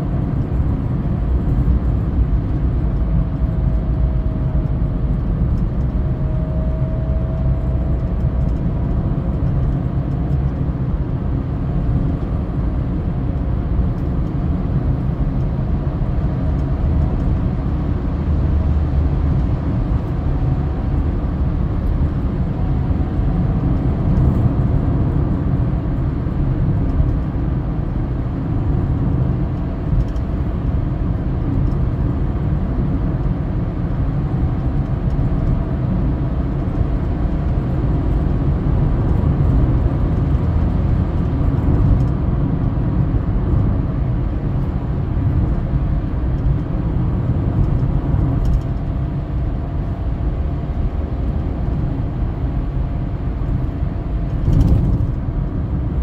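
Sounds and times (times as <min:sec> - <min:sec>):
car cabin road noise: 0:00.0 - 0:56.0.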